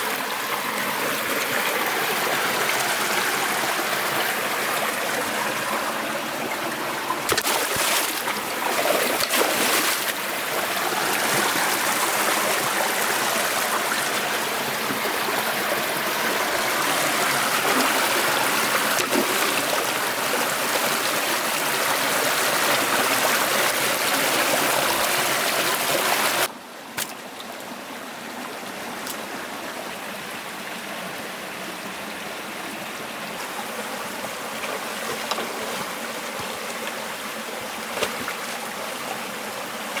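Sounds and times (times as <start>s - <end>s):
stream flowing over rocks: 0.0s - 40.0s.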